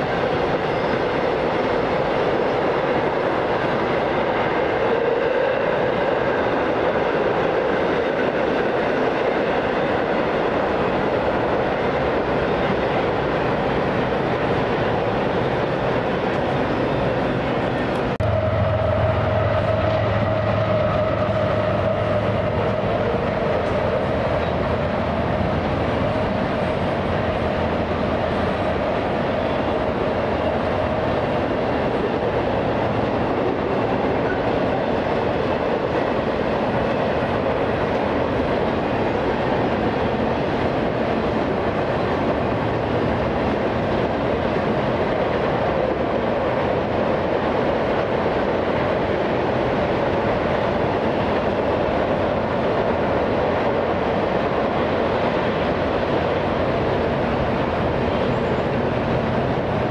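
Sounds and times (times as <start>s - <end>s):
train wheels on track: 0.0s - 59.9s.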